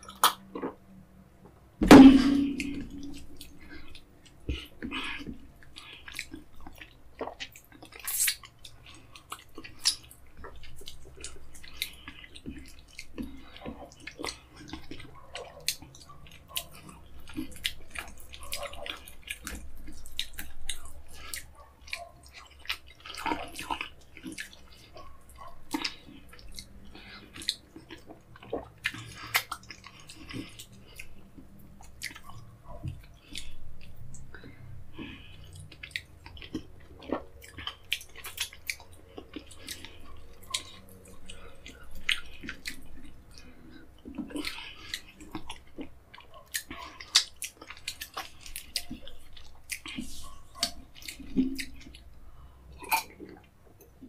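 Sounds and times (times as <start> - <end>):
wet chewing clicks: 0.0 - 0.8, 2.5 - 54.0.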